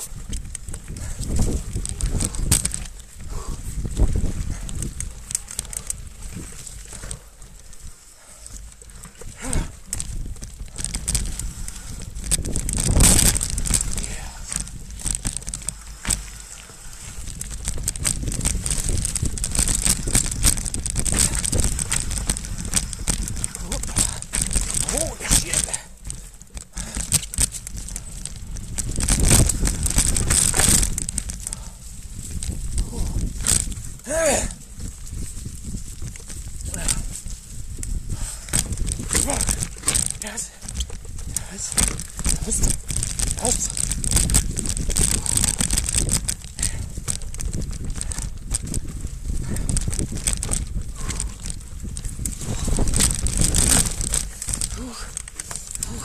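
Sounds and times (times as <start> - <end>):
bike rattling over roots: 0.0 - 56.0
bike tyres crunching on dirt: 0.0 - 56.0
rider breathing hard: 0.0 - 56.0.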